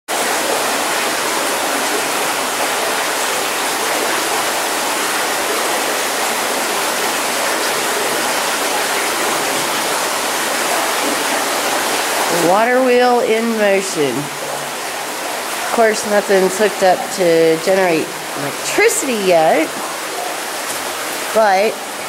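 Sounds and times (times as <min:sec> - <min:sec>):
stream water rushing over rocks: 0:00.1 - 0:22.0.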